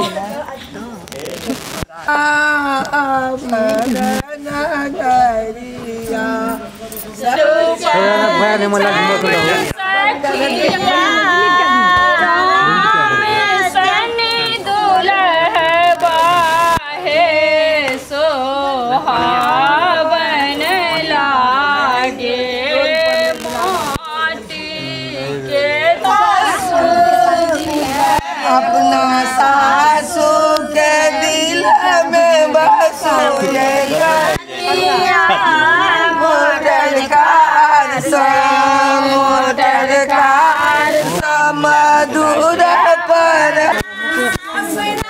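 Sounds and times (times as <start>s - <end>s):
voices chanting long notes: 1.2s - 45.0s
woman singing: 2.0s - 45.0s.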